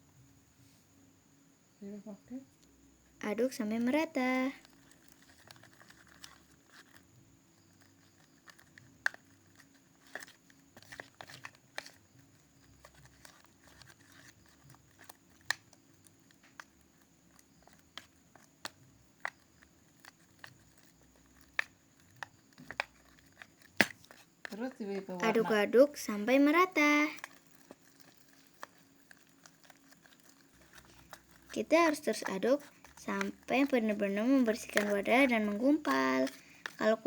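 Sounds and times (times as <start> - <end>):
slime stirred with sticky pops: 3.4 - 37.0.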